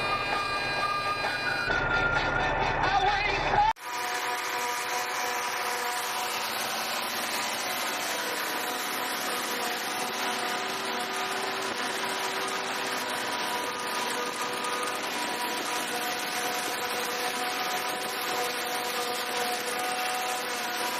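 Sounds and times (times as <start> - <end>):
farm machinery running: 0.0 - 20.9.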